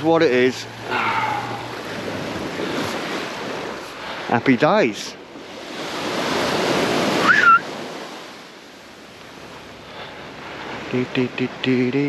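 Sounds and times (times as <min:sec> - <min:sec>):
waves washing onto a beach: 0:00.0 - 0:12.0.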